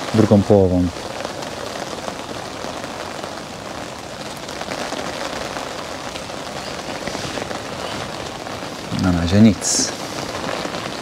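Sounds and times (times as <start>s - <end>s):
heavy rain on an umbrella: 0.0s - 11.0s.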